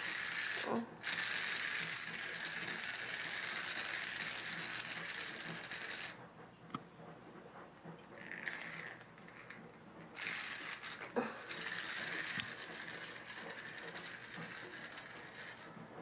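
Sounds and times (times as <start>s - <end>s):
wind-up toy ratcheting whir: 0.0s - 6.2s, 8.1s - 15.8s.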